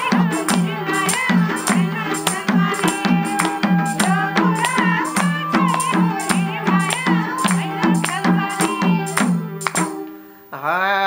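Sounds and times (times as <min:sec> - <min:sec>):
tambourine jingles: 0:00.0 - 0:10.0
bamboo flute melody: 0:00.0 - 0:10.2
hand drum steady beat: 0:00.0 - 0:10.2
harmonium melody: 0:00.0 - 0:10.4.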